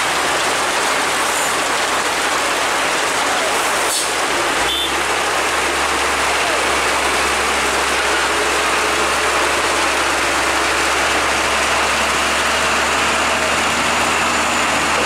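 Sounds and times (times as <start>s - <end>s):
rain hissing: 0.0s - 15.0s
truck engine running: 0.0s - 15.0s.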